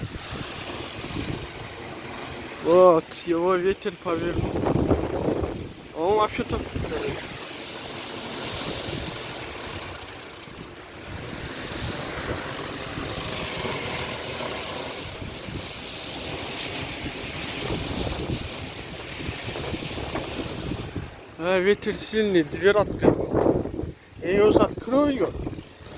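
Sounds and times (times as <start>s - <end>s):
storm wind howling: 0.0s - 25.9s
wind buffeting microphone: 0.0s - 25.9s
wind turbine rotors whirring: 0.0s - 25.9s.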